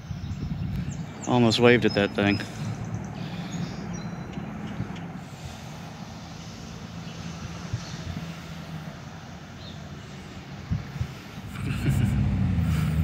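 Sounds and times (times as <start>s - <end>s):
outdoor background noise: 0.0s - 13.0s
vehicle engine humming: 0.0s - 13.0s.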